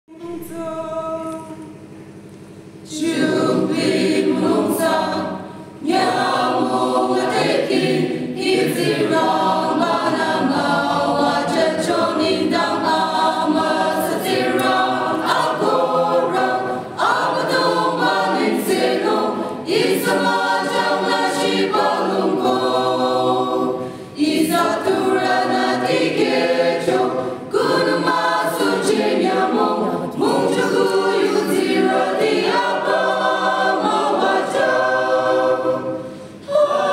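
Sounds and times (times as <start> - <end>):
choir singing a cappella: 0.1 - 2.0, 2.8 - 36.9.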